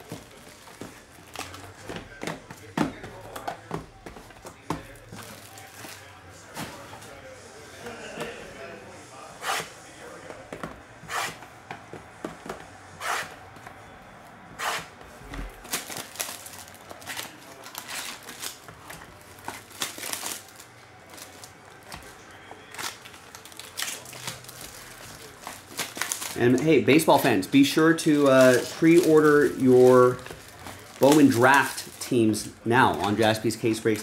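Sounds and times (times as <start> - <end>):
plastic wrap and cardboard crinkling: 0.0 - 8.1, 14.9 - 34.0.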